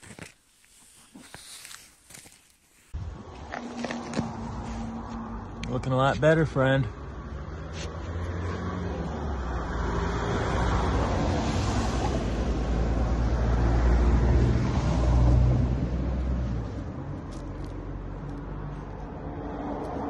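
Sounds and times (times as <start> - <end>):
vehicle passing by: 3.0 - 20.0.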